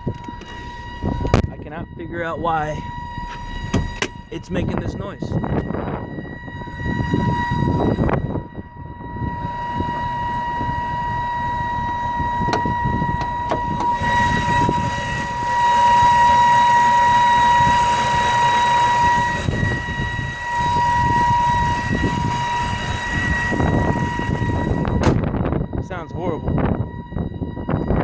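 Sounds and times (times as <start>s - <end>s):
car engine with high-pitched whine: 0.0s - 28.0s.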